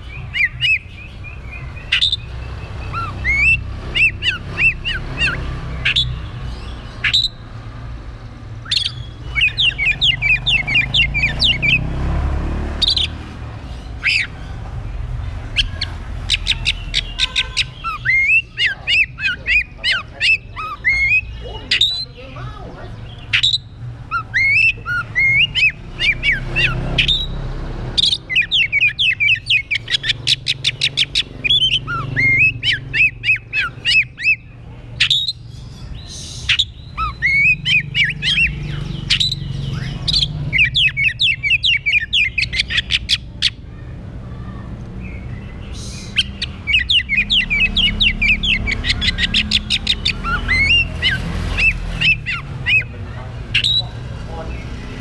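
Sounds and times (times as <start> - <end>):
bird singing whistles and trills: 0.0 - 7.6, 8.5 - 11.9, 12.8 - 14.4, 15.5 - 22.2, 23.0 - 43.6, 45.0 - 55.0.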